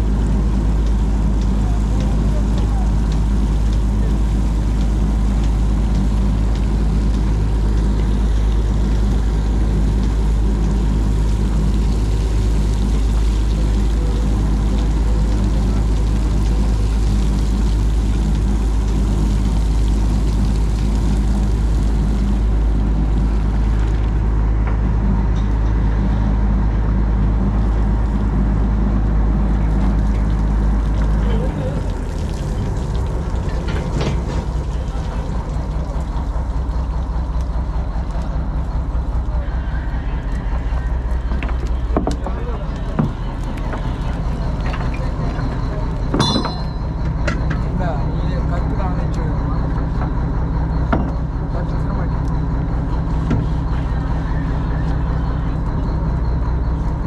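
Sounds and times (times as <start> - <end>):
water splashing and rushing: 0.0 - 50.0
boat engine droning: 0.0 - 57.0.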